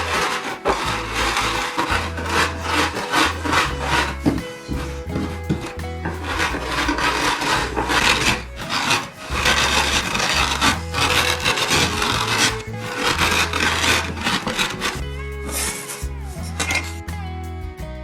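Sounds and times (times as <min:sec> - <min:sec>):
rolling pin crushing rice grains: 0:00.0 - 0:17.0.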